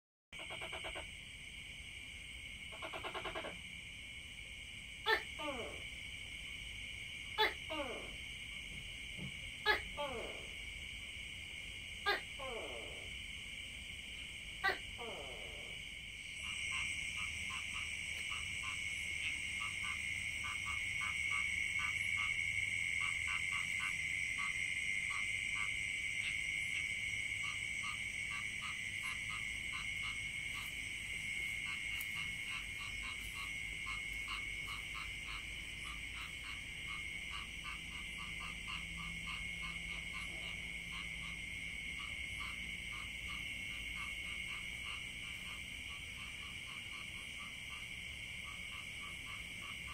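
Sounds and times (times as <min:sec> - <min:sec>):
frogs calling: 0:00.4 - 0:49.9.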